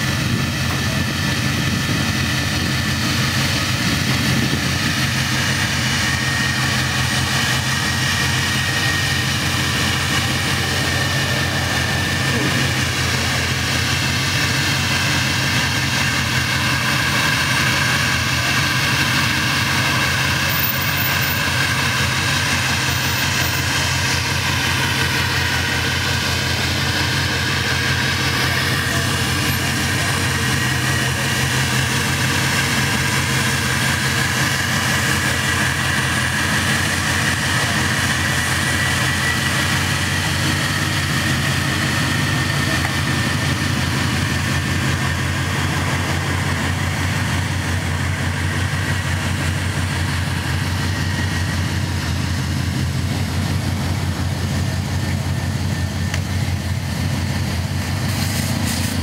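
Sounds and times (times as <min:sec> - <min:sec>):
car engine idling: 0:00.0 - 0:59.0
high-pitched whine: 0:00.0 - 0:59.0.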